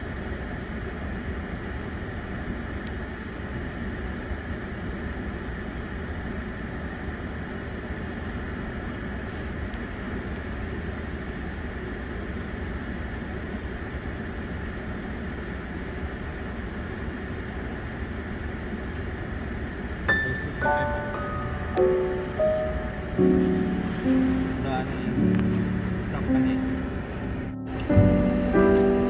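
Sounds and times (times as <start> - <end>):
car cabin engine and road hum: 0.0 - 29.0.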